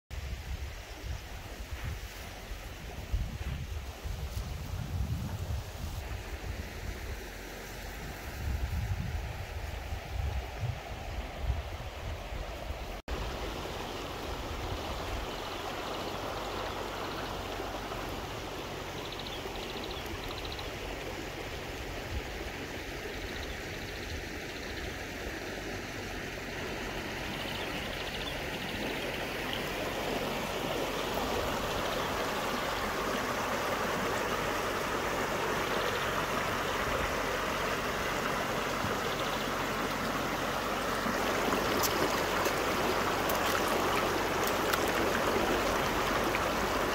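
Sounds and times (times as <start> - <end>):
river water flowing: 0.1 - 46.9.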